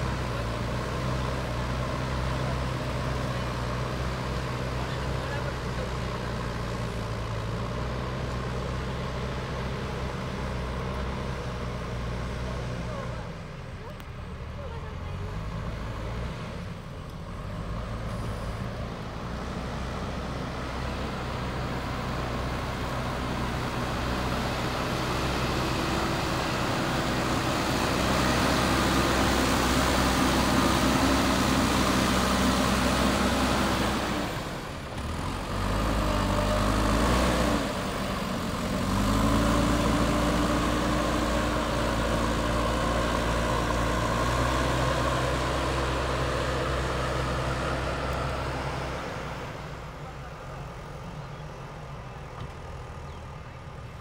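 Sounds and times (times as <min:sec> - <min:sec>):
backhoe diesel engine running: 0:00.0 - 0:54.0.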